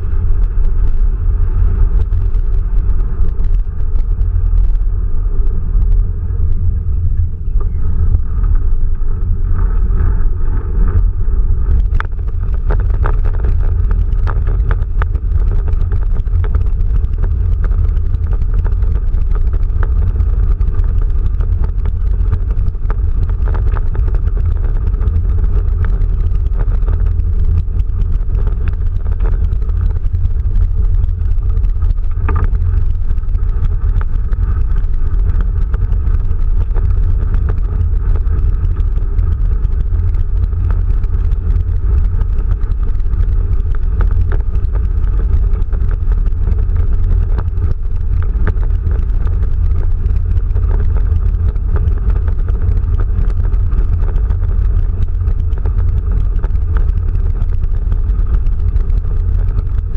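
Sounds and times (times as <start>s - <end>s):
gravel clicks: 0.0s - 59.9s
tyres rumbling over gravel: 0.0s - 59.9s.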